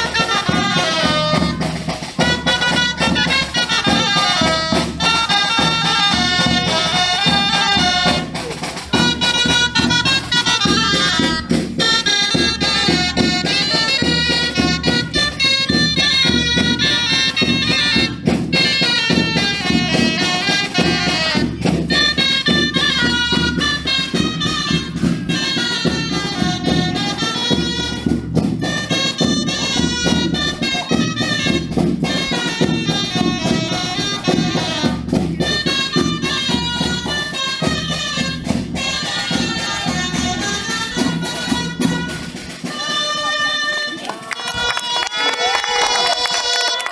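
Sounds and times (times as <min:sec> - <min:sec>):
folk dance music with wind instrument: 0:00.0 - 0:46.9.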